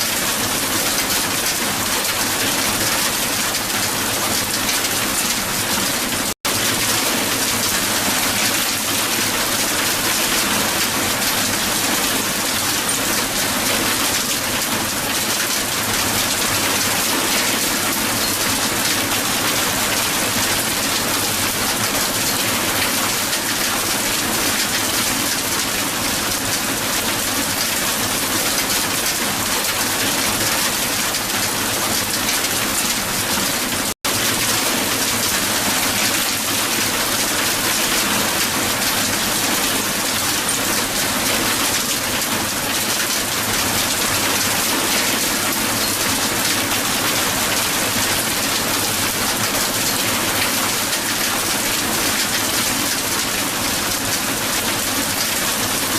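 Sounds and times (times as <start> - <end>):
hail falling on the ground: 0.0 - 55.9.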